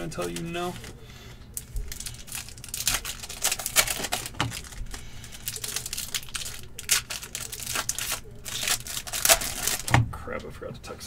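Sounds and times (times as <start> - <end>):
foil packs crinkling and tearing: 0.0 - 1.0, 1.6 - 10.0.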